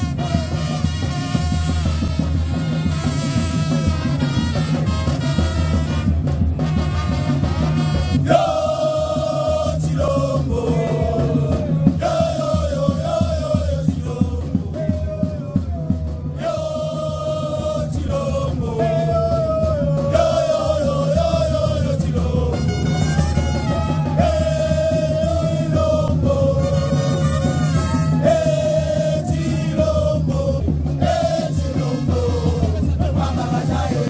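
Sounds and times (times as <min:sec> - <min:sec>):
drum and bass beat: 0:00.0 - 0:34.0.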